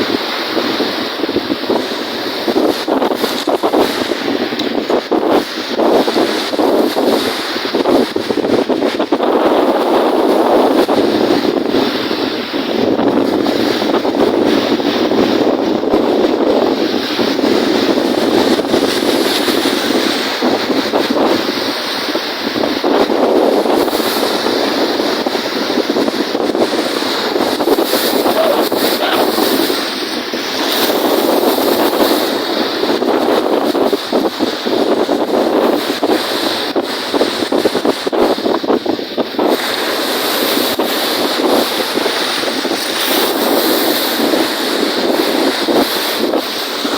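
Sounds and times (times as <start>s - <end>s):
lake waves breaking: 0.0s - 46.9s
wind buffeting microphone: 0.0s - 46.9s.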